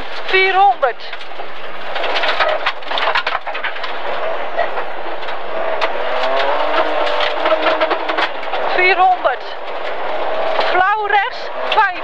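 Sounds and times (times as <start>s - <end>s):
car body rattling and clattering: 0.0s - 12.0s
car engine running: 0.0s - 12.0s.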